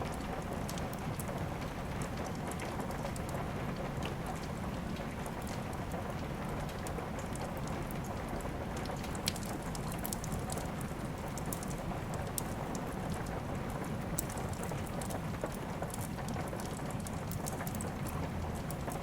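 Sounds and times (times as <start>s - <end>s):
steady rain: 0.0s - 19.0s
wood fire crackling: 0.1s - 19.0s.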